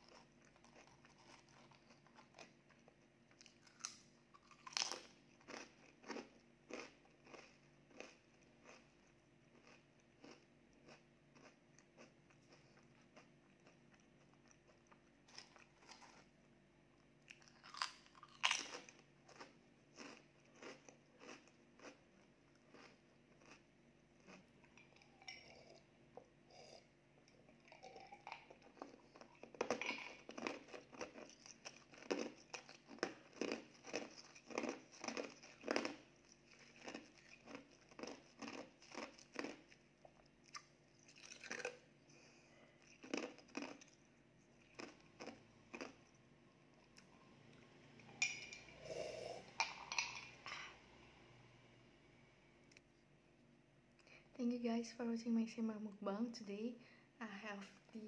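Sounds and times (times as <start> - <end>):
crunching and chewing chips: 0.0 - 48.8.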